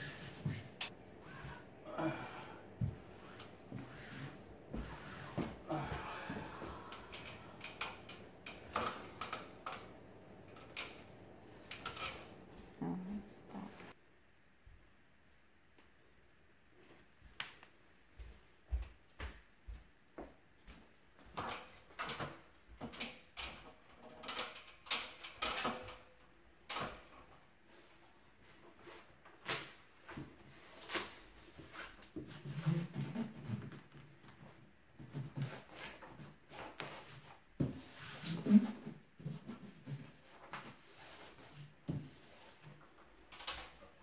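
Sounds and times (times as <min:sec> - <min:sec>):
wallpaper crackling and rustling: 0:00.0 - 0:14.0, 0:20.7 - 0:44.0.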